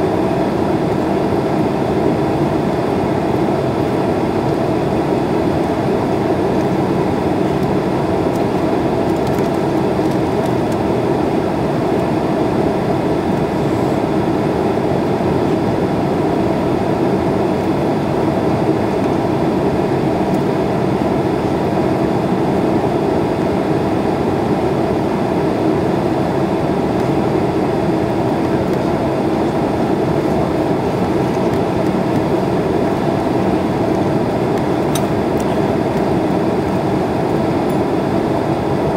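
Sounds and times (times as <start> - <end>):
airliner cabin engine rush: 0.0 - 38.9.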